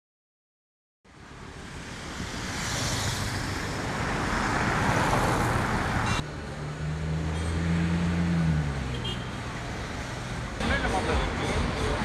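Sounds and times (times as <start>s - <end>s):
street traffic noise: 1.1s - 12.0s.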